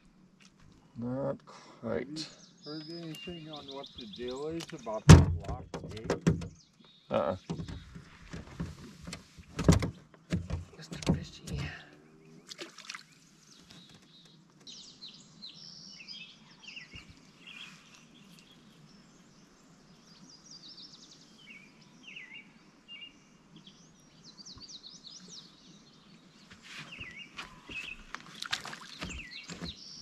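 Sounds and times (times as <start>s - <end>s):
faint background noise: 0.0s - 30.0s
small birds chirping: 0.8s - 9.4s, 10.1s - 30.0s.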